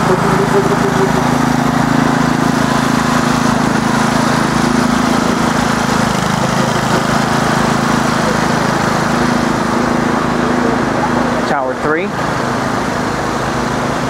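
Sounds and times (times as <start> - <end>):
engine droning hum: 0.0 - 14.0.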